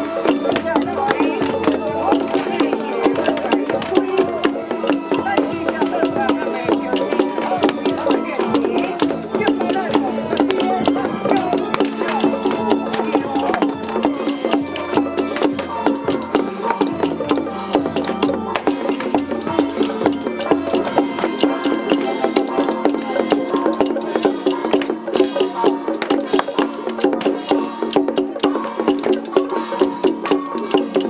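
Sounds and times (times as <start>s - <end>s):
sustained melody line: 0.0s - 28.4s
percussion: 0.0s - 31.0s
wood block struck rhythmically: 0.0s - 31.0s.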